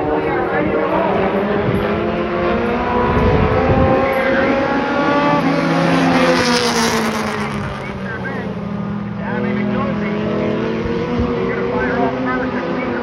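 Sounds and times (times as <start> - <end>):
race car engines passing: 0.0 - 13.0.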